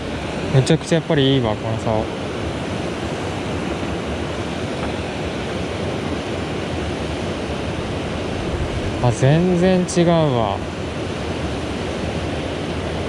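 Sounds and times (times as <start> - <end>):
mountain stream flowing: 0.0 - 13.0.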